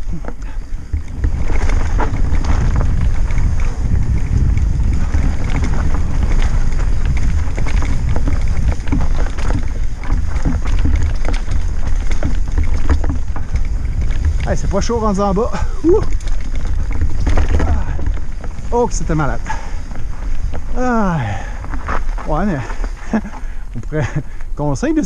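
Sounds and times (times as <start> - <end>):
bike rattling and knocking: 0.0 - 25.0
wind rumble on microphone: 0.0 - 25.0.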